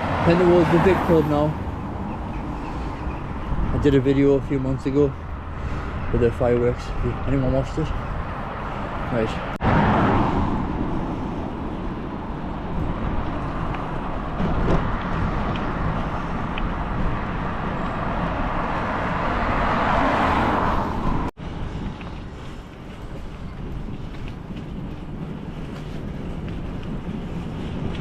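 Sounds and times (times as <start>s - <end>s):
road and traffic noise: 0.0s - 28.0s
wind on the microphone: 1.6s - 28.0s.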